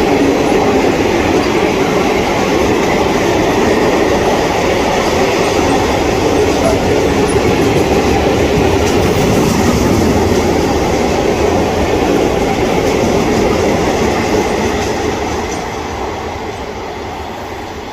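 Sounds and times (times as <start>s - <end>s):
train wheels clattering on track: 0.0s - 17.9s.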